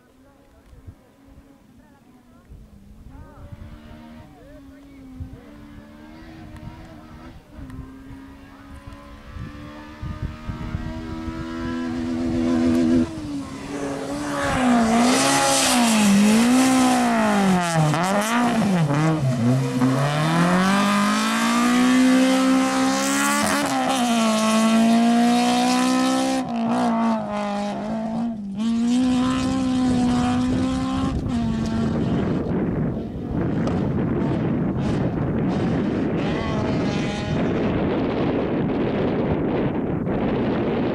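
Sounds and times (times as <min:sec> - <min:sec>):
rally car engine revving: 0:03.2 - 0:40.9.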